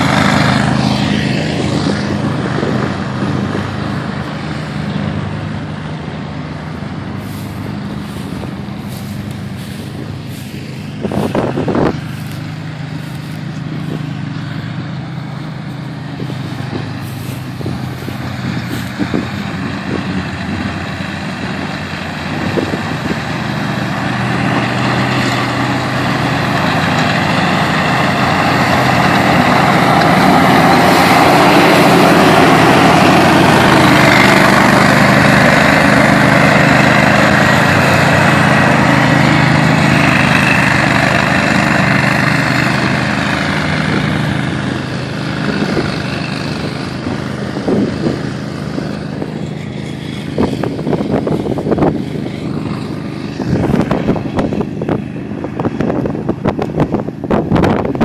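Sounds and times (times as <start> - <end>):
mower engine and blades cutting grass: 0.0 - 58.0.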